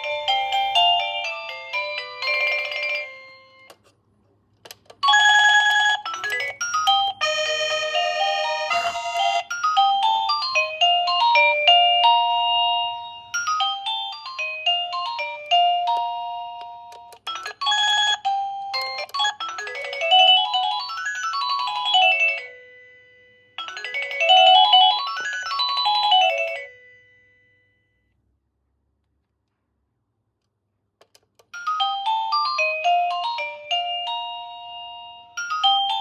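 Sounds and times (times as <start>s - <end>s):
electronic doorbell chime melody: 0.0s - 3.7s, 5.0s - 27.9s, 31.6s - 36.0s.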